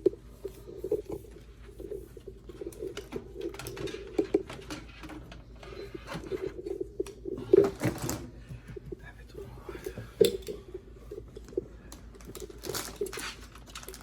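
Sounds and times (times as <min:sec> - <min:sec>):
faint clicks and taps: 0:00.0 - 0:14.0.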